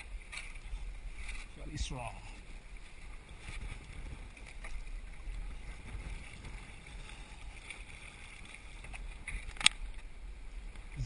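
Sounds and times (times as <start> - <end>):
choppy water lapping: 0.0 - 11.0
paddle splashes: 0.0 - 11.0
wind buffeting microphone: 0.6 - 11.0.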